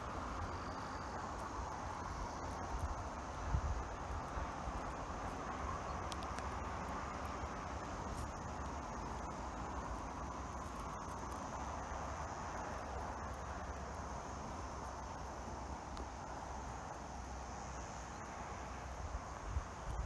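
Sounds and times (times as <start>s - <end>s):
cicada buzzing: 0.0s - 20.0s.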